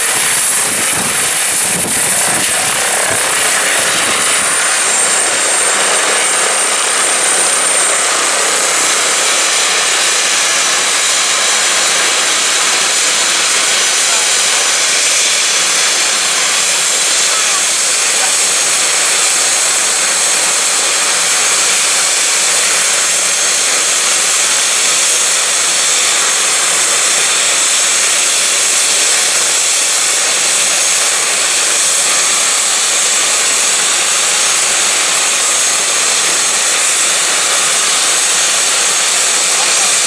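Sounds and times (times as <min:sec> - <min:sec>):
helicopter turbine whine: 0:00.0 - 0:40.0
rotor rushing noise: 0:00.0 - 0:40.0.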